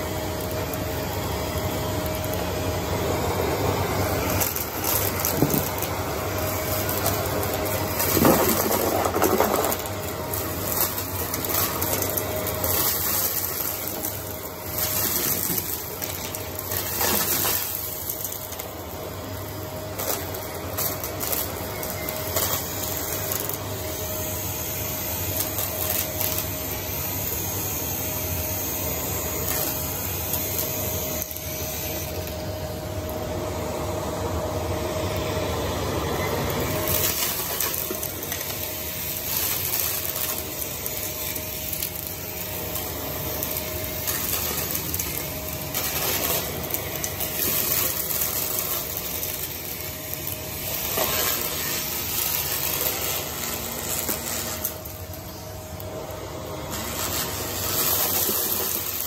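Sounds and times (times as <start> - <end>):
debris crackling in vacuum: 0.0 - 59.0
vacuum cleaner running: 0.0 - 59.0.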